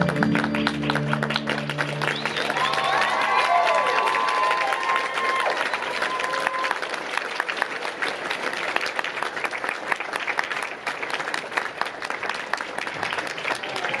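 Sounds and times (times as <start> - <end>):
audience applauding: 0.0 - 14.0
close hand claps: 0.0 - 14.0.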